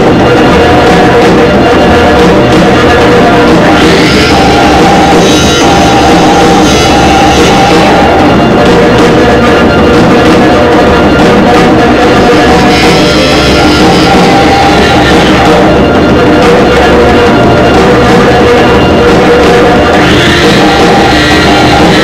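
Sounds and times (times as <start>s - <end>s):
drums playing: 0.0s - 22.0s
electronic noise music: 0.0s - 22.0s.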